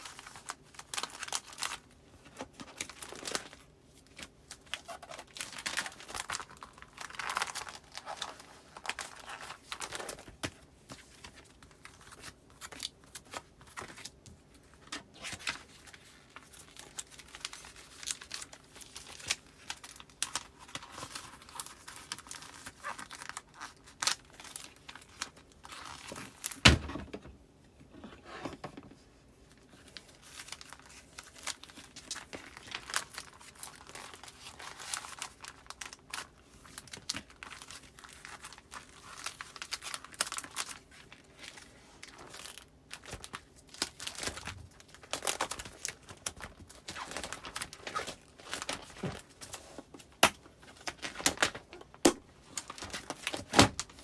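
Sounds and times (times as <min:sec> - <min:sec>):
plastic sleeves crinkling: 0:00.0 - 0:27.2, 0:27.9 - 0:54.0.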